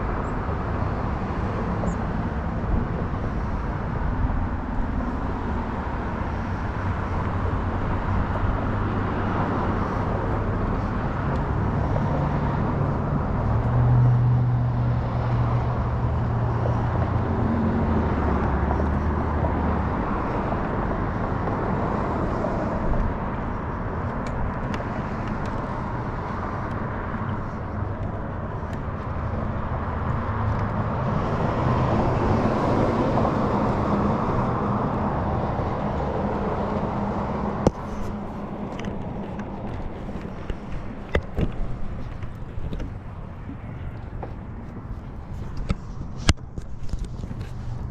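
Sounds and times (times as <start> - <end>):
car road noise: 0.0 - 47.9
low engine hum: 0.0 - 47.9.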